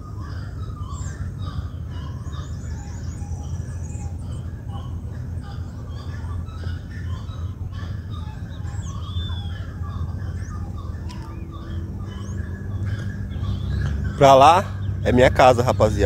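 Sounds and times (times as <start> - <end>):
birds chirping and whistling: 0.0 - 16.0
low background hum: 0.0 - 16.0.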